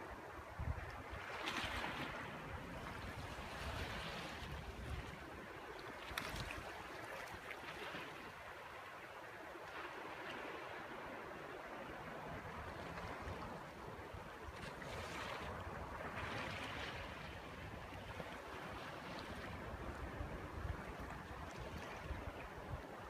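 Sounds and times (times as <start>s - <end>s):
wind on microphone: 0.0s - 8.3s, 10.2s - 23.0s.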